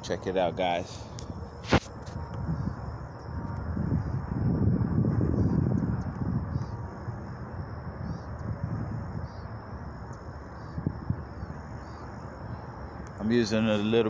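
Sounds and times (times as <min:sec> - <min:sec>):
high insect trill: 0:00.0 - 0:14.0
wind rumble on microphone: 0:00.0 - 0:14.0.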